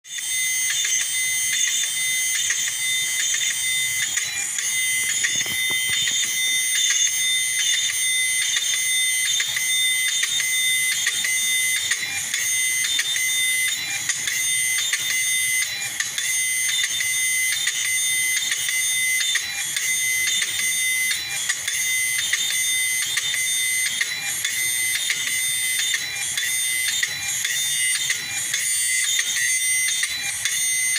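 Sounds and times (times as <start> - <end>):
high-pitched electronic whine: 0.1 - 30.9.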